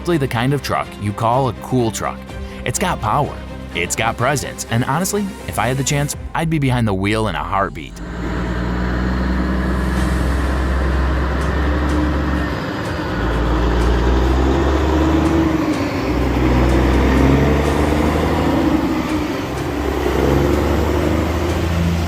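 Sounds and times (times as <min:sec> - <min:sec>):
truck engine running: 0:02.0 - 0:22.0.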